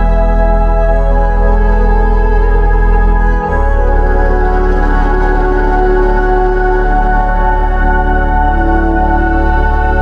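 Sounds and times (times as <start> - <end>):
deep bass: 0.0 - 10.0.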